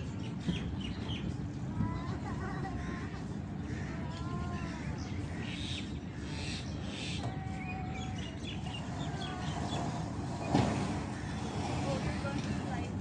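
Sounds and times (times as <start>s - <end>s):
birds chirping: 0.0s - 13.0s
low background rumble: 0.0s - 13.0s.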